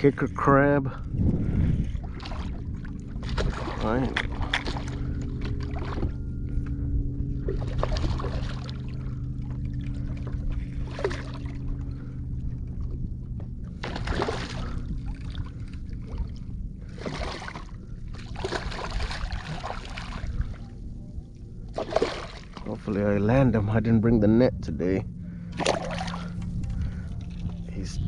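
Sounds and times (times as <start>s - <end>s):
water splashing and sloshing: 0.0s - 23.8s, 25.1s - 28.0s
steady low hum: 0.0s - 28.0s.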